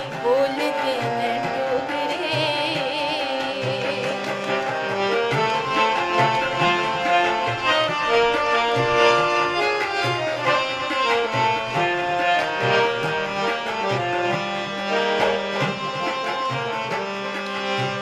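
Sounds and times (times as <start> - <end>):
hand drum beats: 0.0 - 18.0
harmonium melody: 0.0 - 18.0.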